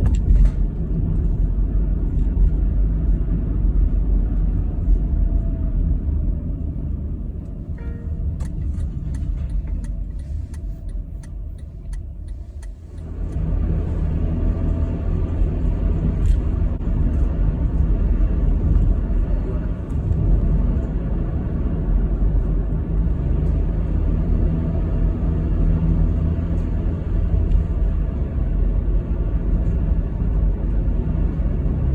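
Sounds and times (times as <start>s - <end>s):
car engine and tyre rumble: 0.0s - 31.9s.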